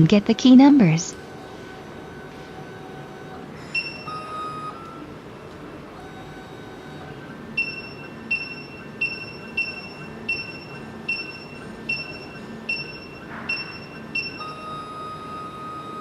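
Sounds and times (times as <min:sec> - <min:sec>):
machine motor whir: 0:01.1 - 0:16.0.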